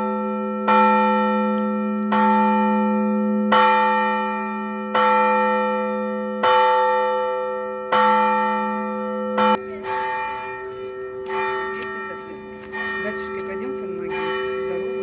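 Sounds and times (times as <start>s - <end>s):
church bell ringing: 0.0s - 15.0s.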